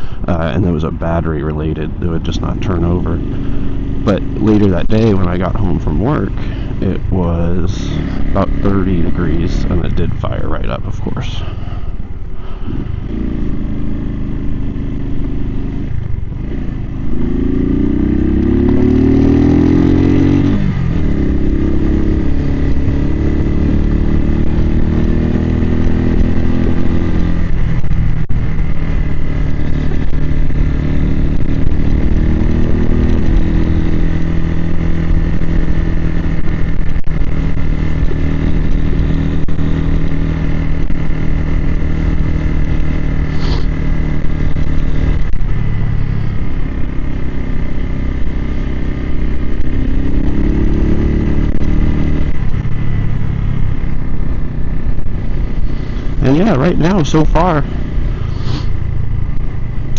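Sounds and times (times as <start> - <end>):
motorcycle engine under way: 0.0 - 59.9.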